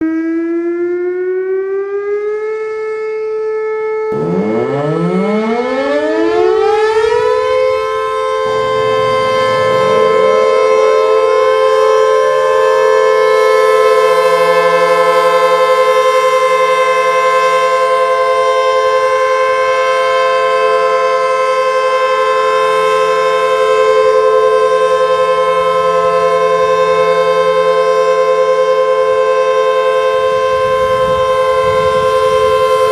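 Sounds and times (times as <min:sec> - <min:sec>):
tornado sirens winding up: 0:00.0 - 0:32.9.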